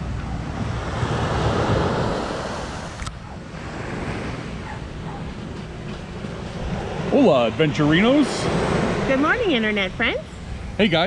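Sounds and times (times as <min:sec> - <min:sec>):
surf washing in: 0:00.0 - 0:11.0
wind buffeting microphone: 0:00.0 - 0:11.0.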